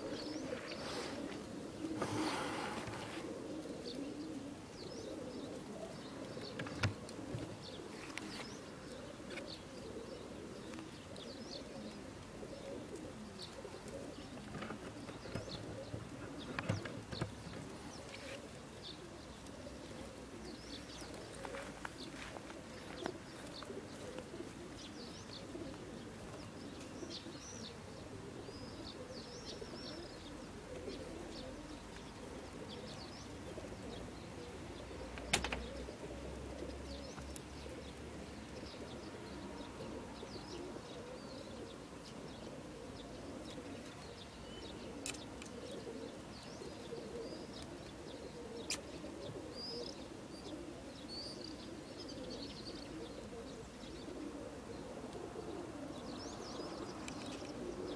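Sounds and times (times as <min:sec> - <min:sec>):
birds chirping: 0:00.0 - 0:57.9
pigeons cooing: 0:00.0 - 0:57.9.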